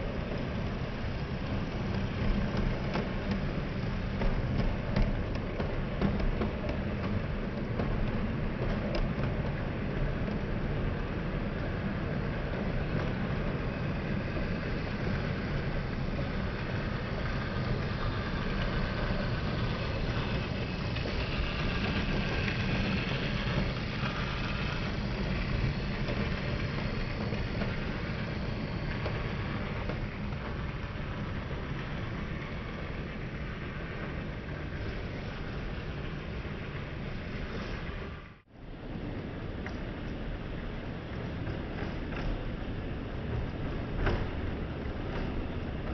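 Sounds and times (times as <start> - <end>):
model train rumbling on track: 0.0 - 45.9.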